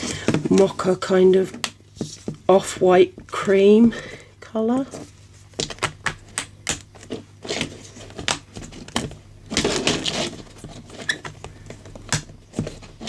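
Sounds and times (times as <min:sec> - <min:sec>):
plastic crates clicking and tapping: 0:00.0 - 0:04.2, 0:04.9 - 0:13.0.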